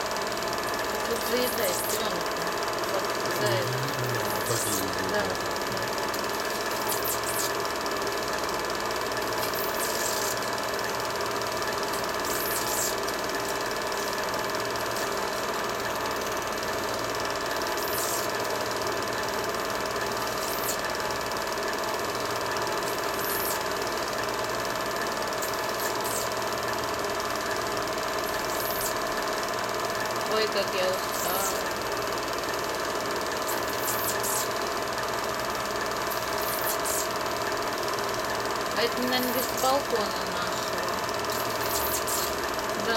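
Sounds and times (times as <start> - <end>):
film projector mechanical whir: 0.0 - 42.9.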